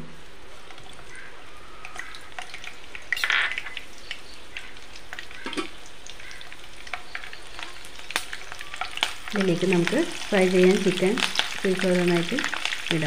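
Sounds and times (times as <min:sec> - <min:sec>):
chillies sizzling in oil: 0:00.3 - 0:13.0
oil popping and crackling: 0:00.6 - 0:13.0.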